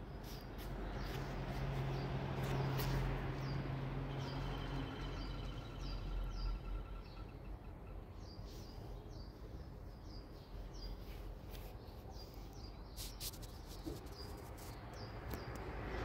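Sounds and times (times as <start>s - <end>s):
small bird chirping: 0.0s - 15.6s
outdoor background noise: 0.0s - 16.0s.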